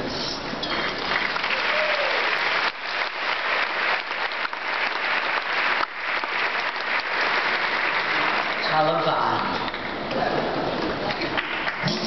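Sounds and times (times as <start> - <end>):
audience applauding: 0.9 - 10.0, 11.1 - 12.0.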